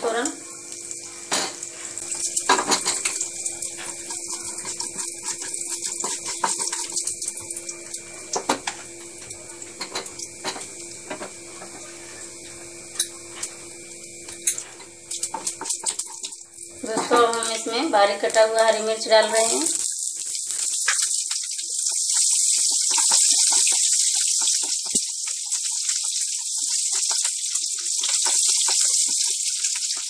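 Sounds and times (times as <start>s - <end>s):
seeds sizzling in hot oil: 0.0s - 30.0s.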